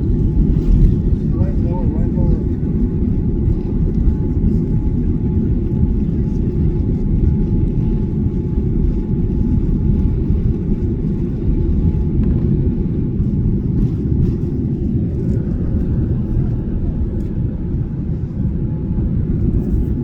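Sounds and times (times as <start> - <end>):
jet engines rumbling on takeoff: 0.0 - 20.0.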